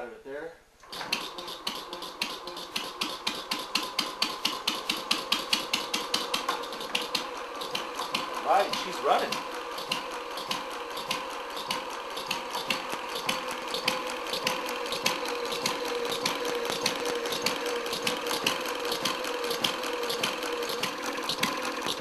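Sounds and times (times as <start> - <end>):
small engine clicking and humming: 0.8 - 22.0.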